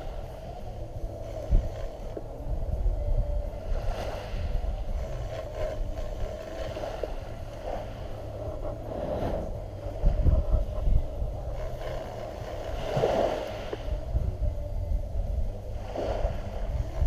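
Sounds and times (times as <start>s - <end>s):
steady mid-pitched hum: 0.0s - 17.0s
wind rumbling on microphone: 0.0s - 17.0s.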